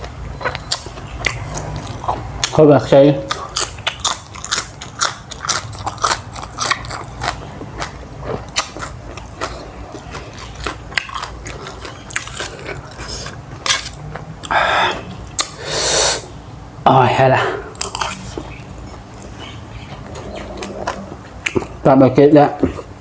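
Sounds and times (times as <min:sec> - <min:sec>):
mouth clicks and smacks: 0:00.0 - 0:02.6, 0:03.2 - 0:16.5, 0:17.7 - 0:21.8
person chewing and crunching food: 0:00.0 - 0:16.4, 0:17.6 - 0:23.0.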